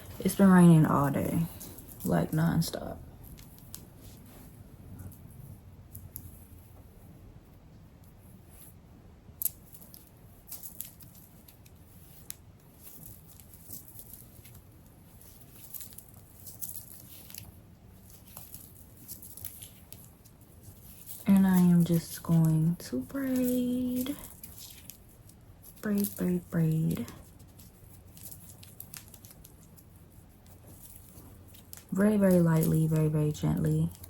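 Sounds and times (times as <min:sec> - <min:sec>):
hair rustling and crackling: 0:00.0 - 0:07.0, 0:09.4 - 0:34.0.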